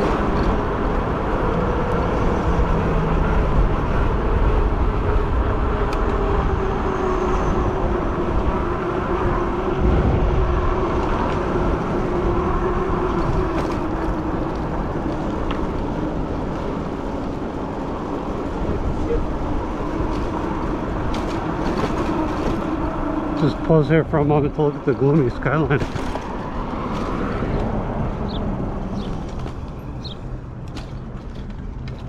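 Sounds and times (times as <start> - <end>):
tire and wind noise: 0.0 - 32.0.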